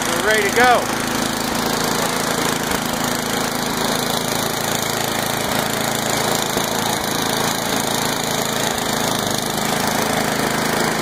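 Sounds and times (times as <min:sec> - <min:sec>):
snowblower engine running: 0:00.0 - 0:11.0.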